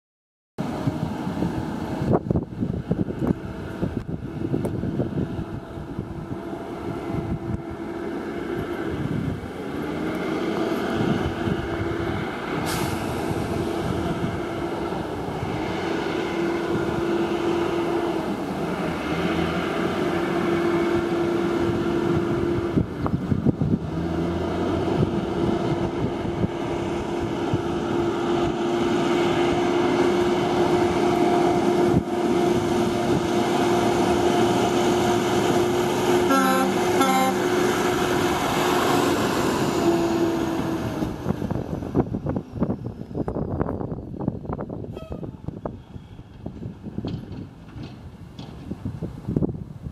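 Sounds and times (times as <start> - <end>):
dump truck driving past: 0.6 - 49.8.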